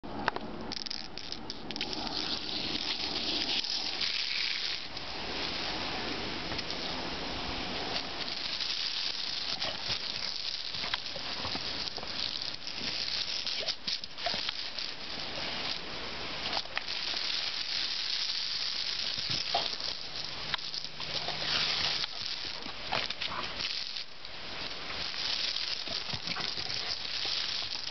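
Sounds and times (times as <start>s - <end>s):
hose water spraying on stone: 0.7s - 27.9s.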